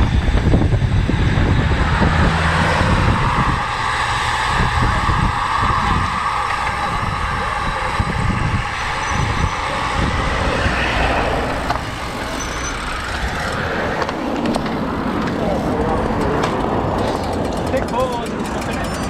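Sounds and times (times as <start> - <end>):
vehicle running rumble: 0.0 - 19.0.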